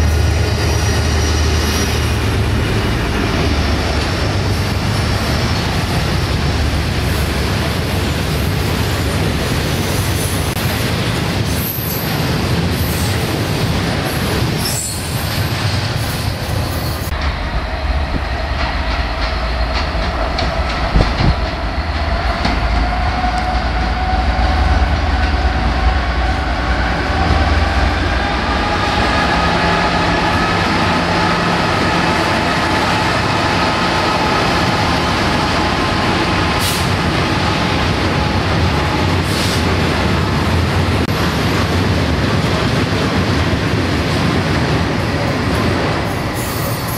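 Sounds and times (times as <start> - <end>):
diesel locomotive passing: 0.0 - 46.9.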